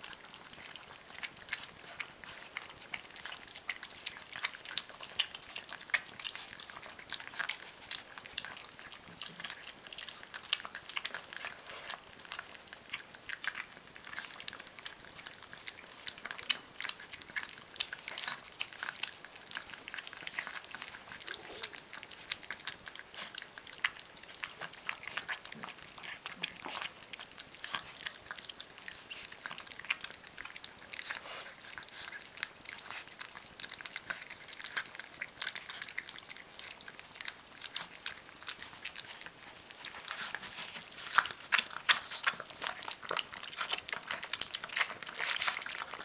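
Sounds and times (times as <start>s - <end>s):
puppies chewing and lapping: 0.0s - 46.0s.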